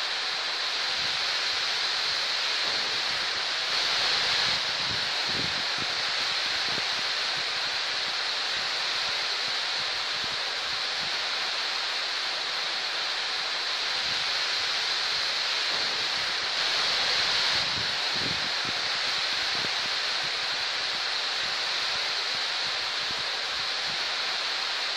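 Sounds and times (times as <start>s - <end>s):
heavy rain on trees and grass: 0.0s - 24.9s.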